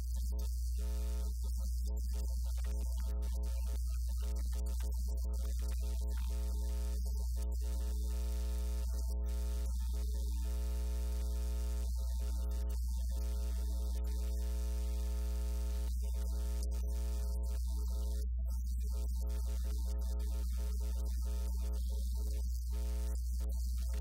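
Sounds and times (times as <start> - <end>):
low mains hum: 0.0 - 24.0.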